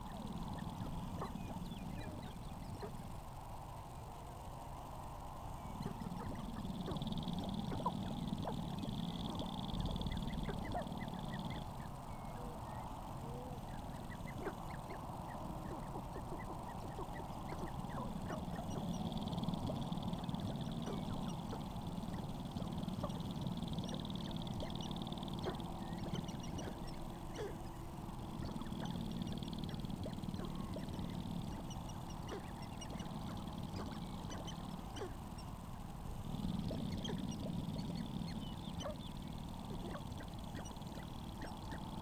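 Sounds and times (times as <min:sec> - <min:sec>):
grouse calls: 0:00.0 - 0:03.5, 0:05.4 - 0:42.0.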